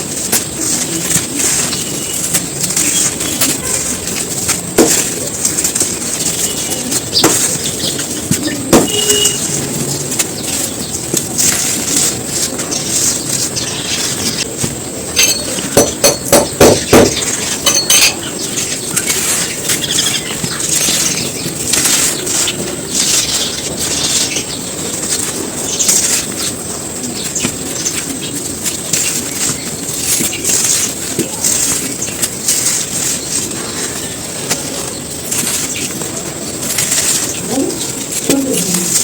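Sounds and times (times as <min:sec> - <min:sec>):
sand clumps crunching: 0:00.0 - 0:39.0.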